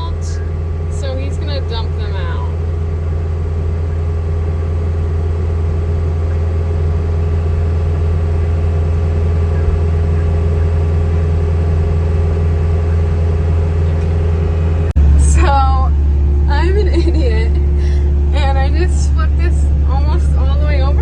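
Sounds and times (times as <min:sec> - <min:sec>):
vehicle engine running steadily: 0:00.0 - 0:21.0.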